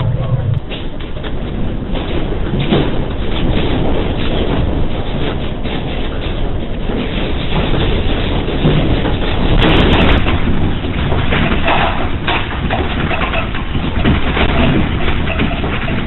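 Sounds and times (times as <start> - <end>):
building rattling and clattering: 0.0 - 16.0
earthquake rumble: 0.0 - 16.0.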